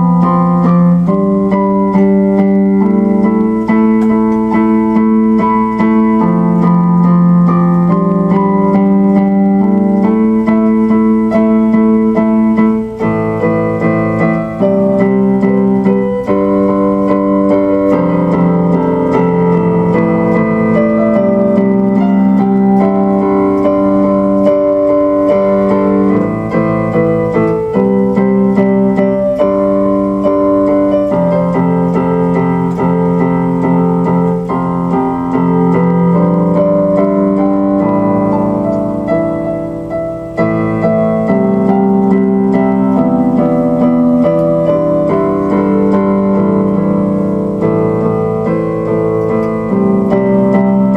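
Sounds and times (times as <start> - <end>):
electric piano chords: 0.0 - 50.9.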